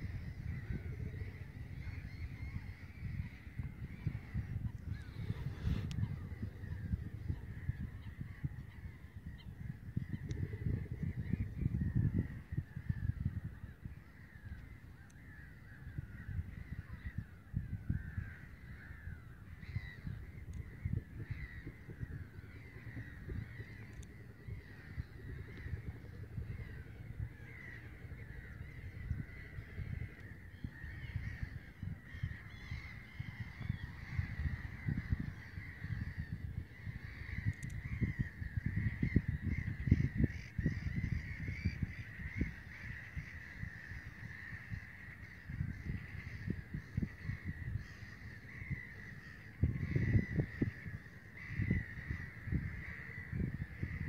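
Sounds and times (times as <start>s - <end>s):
gulls calling: 0.0s - 54.0s
wind buffeting microphone: 0.0s - 54.0s.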